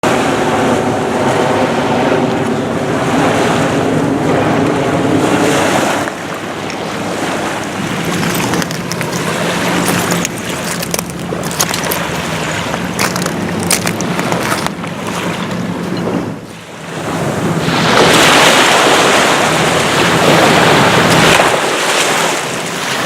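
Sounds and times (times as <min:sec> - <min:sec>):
steady low hum: 0:00.0 - 0:23.0
waves breaking on shore: 0:00.0 - 0:23.0
wind buffeting microphone: 0:00.0 - 0:23.0.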